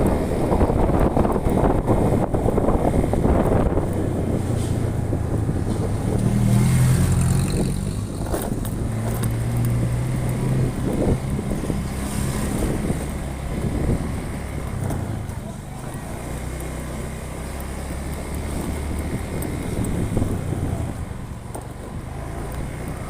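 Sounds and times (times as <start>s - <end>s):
road noise: 0.0s - 23.0s
vehicle engine hum: 0.0s - 23.0s.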